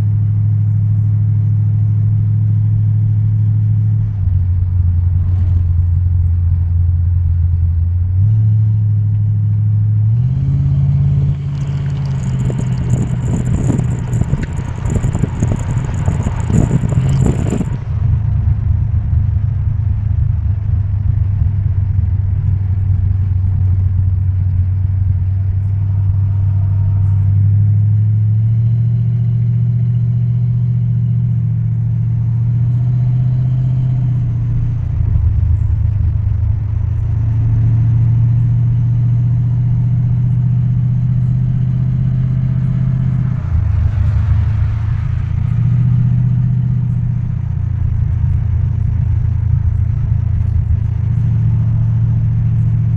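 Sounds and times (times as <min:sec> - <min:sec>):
car engine drone: 0:00.0 - 0:52.9
road noise: 0:00.0 - 0:52.9.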